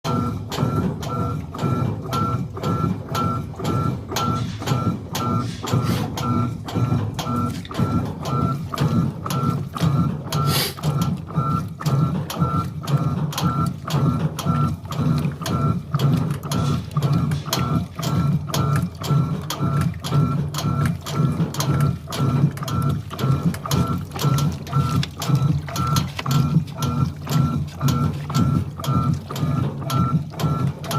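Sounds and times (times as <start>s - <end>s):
washing machine running: 0.0s - 30.9s.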